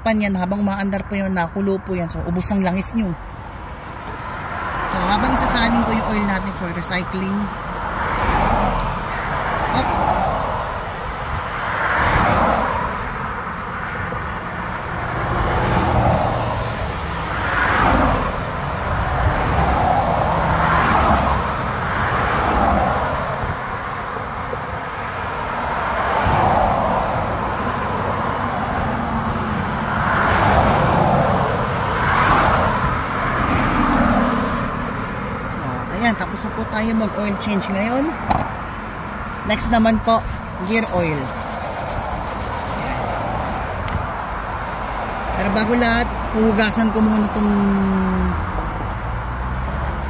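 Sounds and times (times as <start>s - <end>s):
cars passing: 0.0s - 50.0s.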